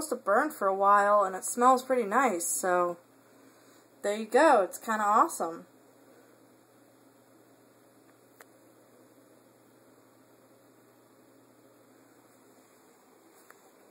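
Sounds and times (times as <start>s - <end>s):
faint hum and hiss: 0.0s - 13.9s.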